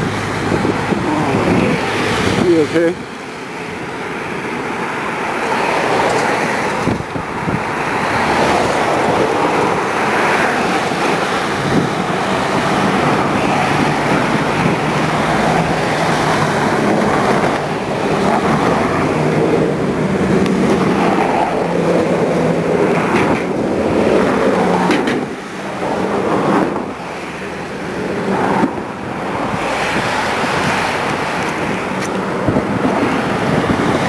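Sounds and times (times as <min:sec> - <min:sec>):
wind on microphone: 0:00.0 - 0:03.1, 0:03.8 - 0:34.0
traffic passing: 0:00.0 - 0:34.0.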